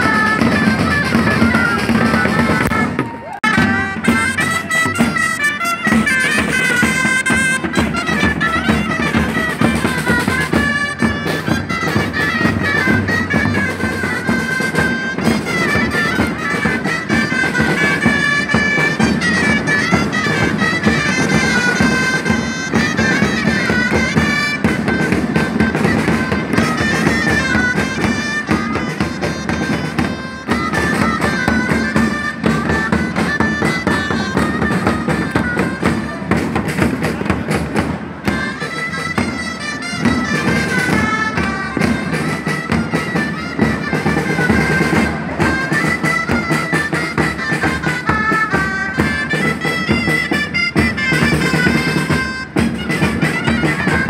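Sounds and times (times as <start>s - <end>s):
marching drums beating: 0.0s - 54.0s
shawms playing reedy melody: 0.0s - 54.0s.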